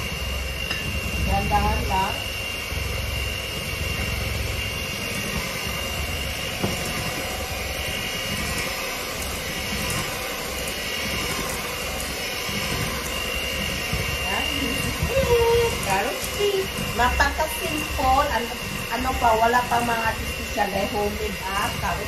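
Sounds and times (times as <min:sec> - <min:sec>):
electric hand mixer whirring: 0:00.0 - 0:22.0.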